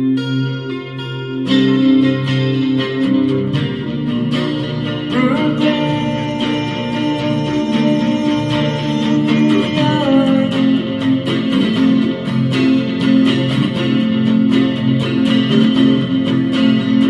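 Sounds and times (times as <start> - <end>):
electric guitar strummed chords: 0.0 - 17.0.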